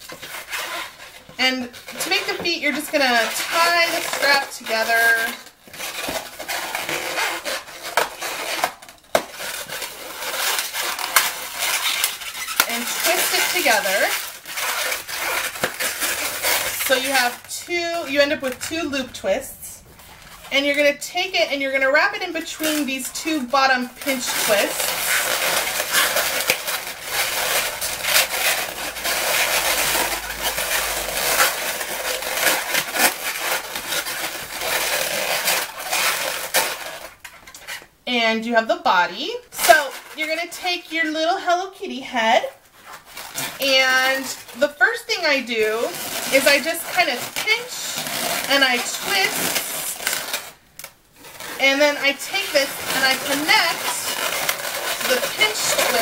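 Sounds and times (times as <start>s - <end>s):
balloon rubbing and creaking: 0.0s - 37.9s, 42.4s - 56.0s
balloon squeaks: 0.0s - 37.9s, 42.4s - 56.0s.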